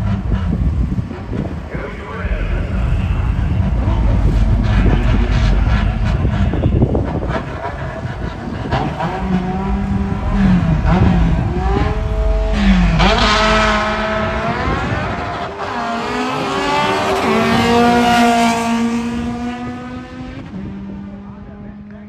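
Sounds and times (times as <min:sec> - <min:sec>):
drag car engine revving: 0:00.0 - 0:22.0.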